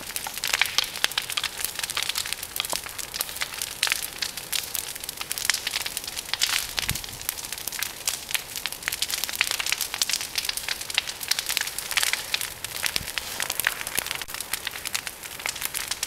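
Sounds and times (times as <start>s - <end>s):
branches burning with crackling: 0.0s - 16.0s.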